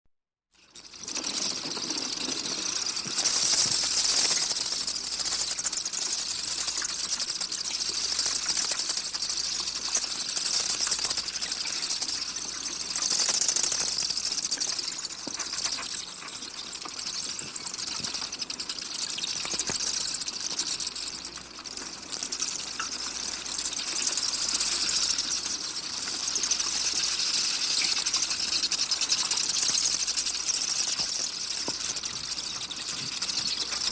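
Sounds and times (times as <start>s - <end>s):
bat calls clicking and chirping: 0.6s - 33.9s.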